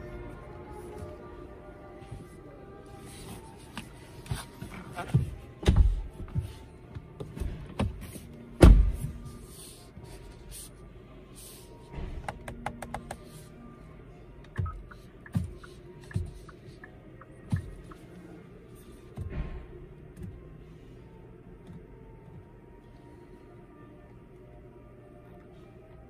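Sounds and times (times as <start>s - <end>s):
faint background music: 0.0s - 26.0s.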